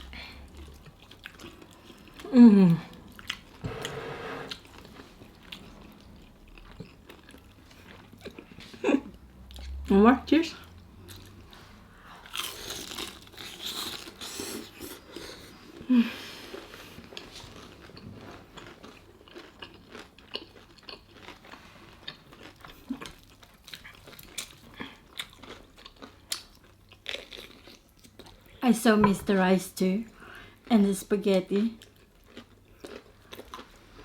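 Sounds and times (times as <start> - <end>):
chewing crispy fried chicken: 0.0 - 3.6, 4.5 - 9.8, 10.6 - 28.6, 31.5 - 34.0.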